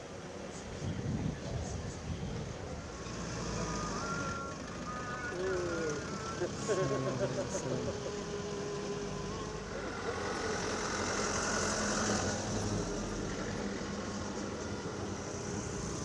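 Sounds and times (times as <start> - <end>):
vehicle engines running: 0.0 - 16.0
vehicle passing: 2.8 - 16.0.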